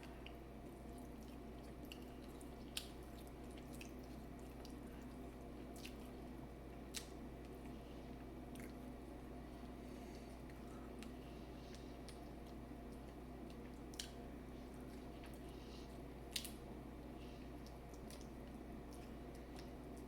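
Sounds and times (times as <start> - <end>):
wet squishes of eating: 0.0 - 20.0.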